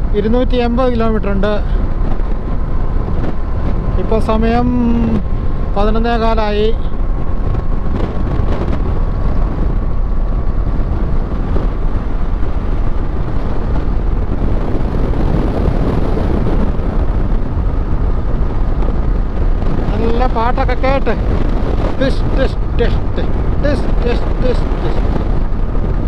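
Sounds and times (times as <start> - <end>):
motorcycle engine and road noise: 0.0 - 26.0
wind rushing on microphone: 0.0 - 26.0.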